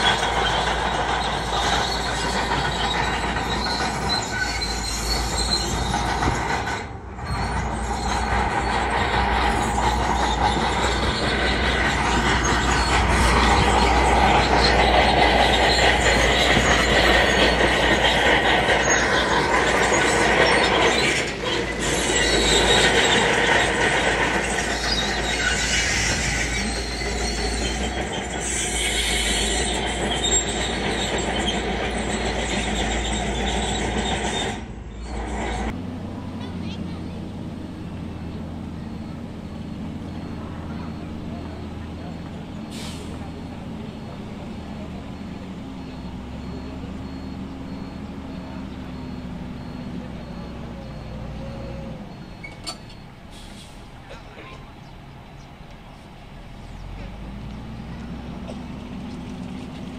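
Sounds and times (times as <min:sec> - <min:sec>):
diesel engine under load: 0:00.0 - 0:59.9
steel tracks squealing and clanking: 0:00.0 - 0:59.9.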